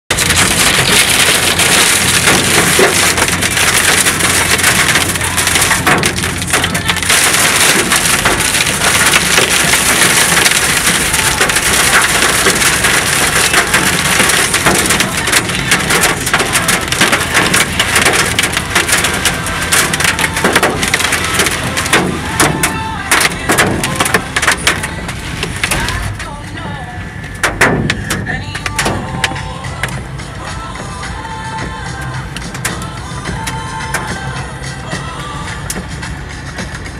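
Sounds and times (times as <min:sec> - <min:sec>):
heavy rain pounding on car roof: 0:00.1 - 0:36.9.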